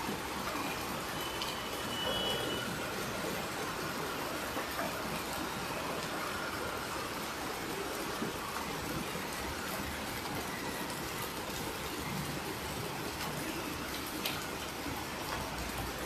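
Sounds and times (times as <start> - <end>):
heavy rain on water: 0.0 - 16.0
runoff pouring and splashing: 0.0 - 16.0.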